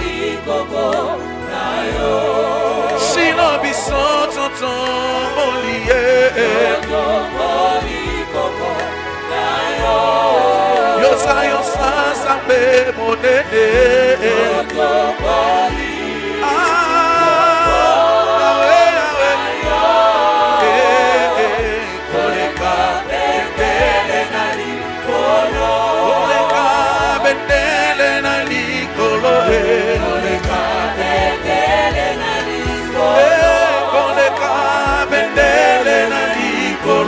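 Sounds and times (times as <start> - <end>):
low musical accompaniment: 0.0 - 37.0
voices singing gospel: 0.0 - 37.0.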